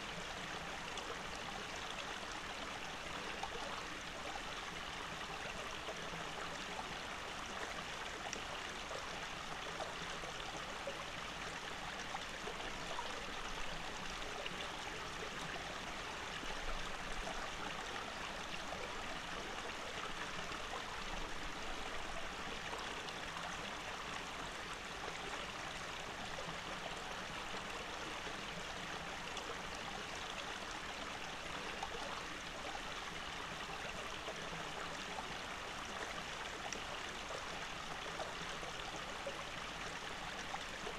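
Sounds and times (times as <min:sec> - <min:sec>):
stream trickling over rocks: 0:00.0 - 0:40.9.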